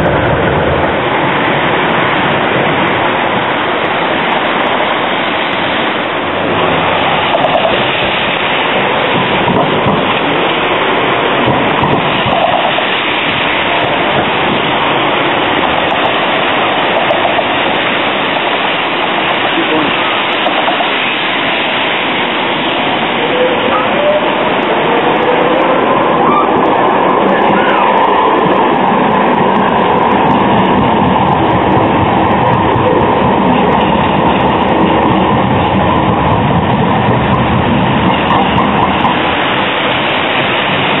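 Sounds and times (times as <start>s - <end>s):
cars passing: 0.0s - 41.0s
tram passing: 0.0s - 41.0s
tyres hissing on wet road: 0.0s - 41.0s.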